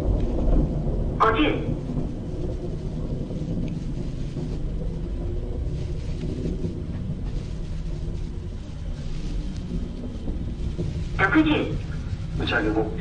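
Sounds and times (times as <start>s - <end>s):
rocket engine low rumble: 0.0s - 13.0s.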